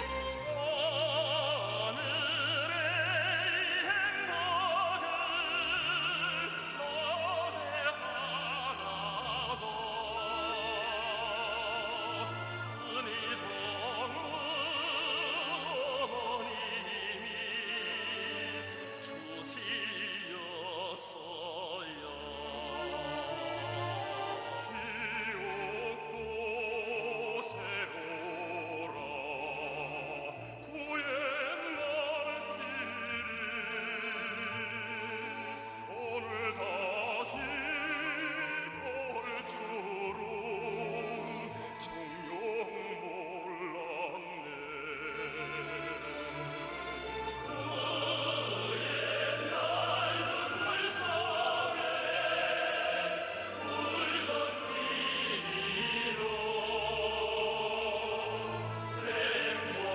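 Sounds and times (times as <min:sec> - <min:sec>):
operatic singing: 0:00.0 - 0:59.9
orchestral accompaniment: 0:00.0 - 0:59.9.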